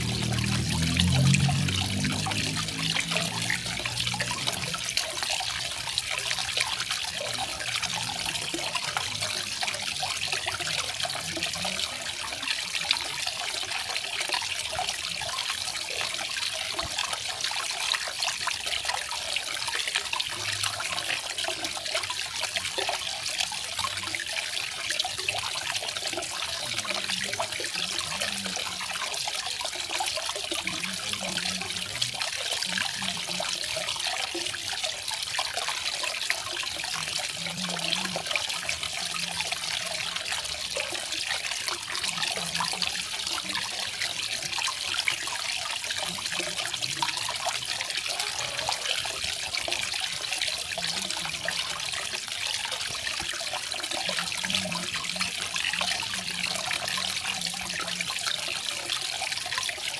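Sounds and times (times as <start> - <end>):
waterfall splashing into pool: 0.0 - 59.9.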